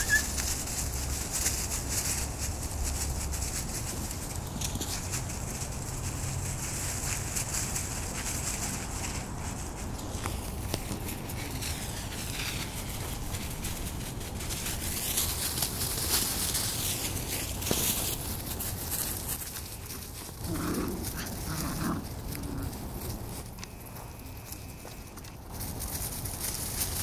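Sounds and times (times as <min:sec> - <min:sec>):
puppies rustling through leaves: 0:00.0 - 0:27.0.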